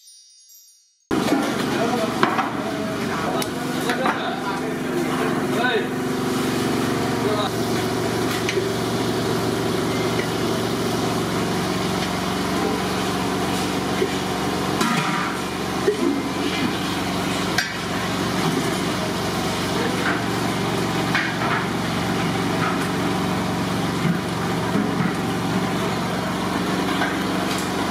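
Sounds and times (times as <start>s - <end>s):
steady mechanical drone: 1.1s - 27.9s.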